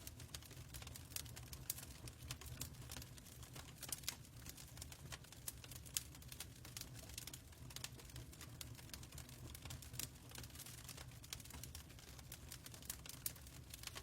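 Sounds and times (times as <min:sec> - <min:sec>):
fireplace crackling and popping: 0:00.0 - 0:14.0.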